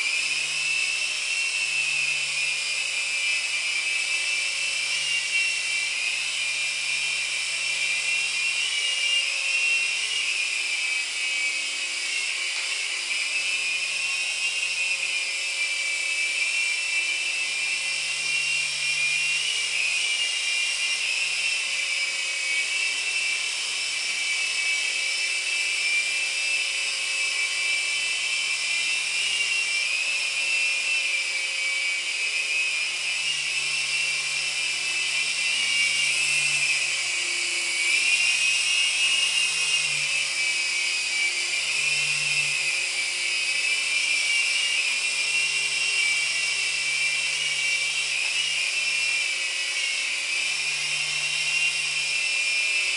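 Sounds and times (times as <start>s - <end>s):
rc helicopter motor whine: 0.0s - 52.9s.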